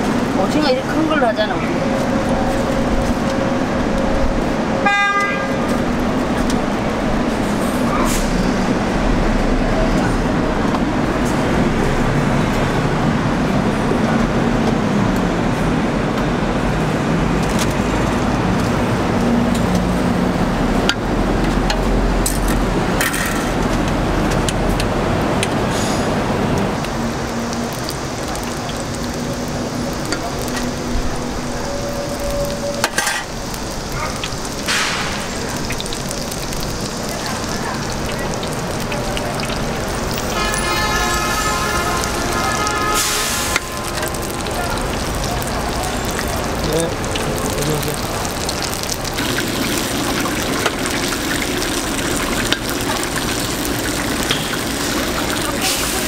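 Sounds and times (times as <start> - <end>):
deep-frying sizzle: 0.0 - 56.0.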